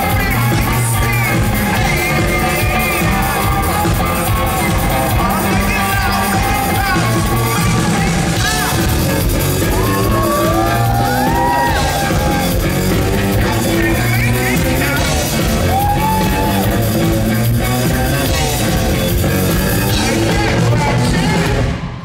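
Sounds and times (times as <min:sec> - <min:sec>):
live rock band playing: 0:00.0 - 0:22.0
person singing: 0:00.0 - 0:22.0.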